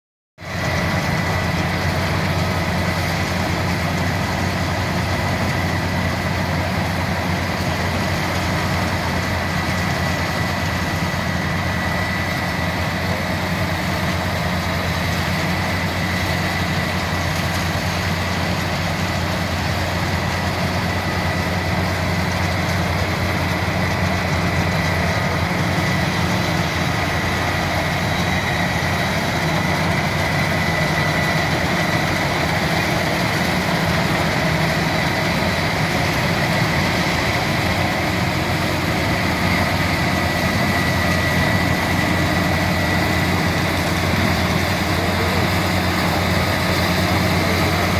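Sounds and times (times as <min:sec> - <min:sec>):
harvester engine drone: 0:00.4 - 0:47.9.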